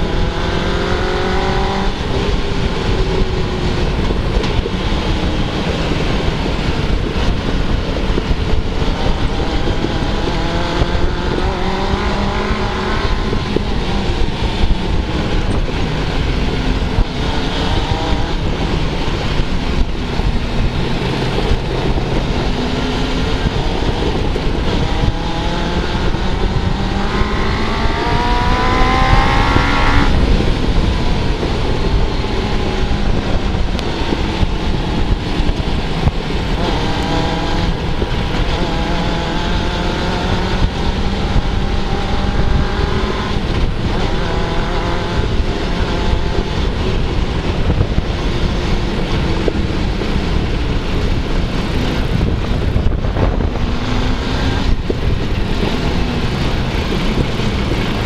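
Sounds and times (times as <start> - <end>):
loud ride noise: 0.0 - 58.0
motorcycle engine revving: 0.0 - 58.0.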